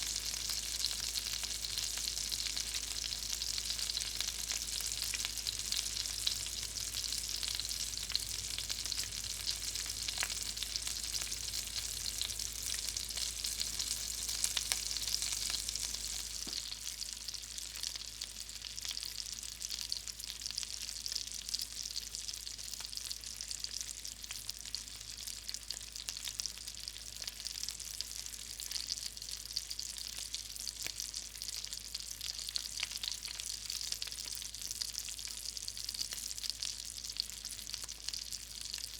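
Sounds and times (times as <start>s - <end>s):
grease sizzling and popping: 0.0s - 38.9s.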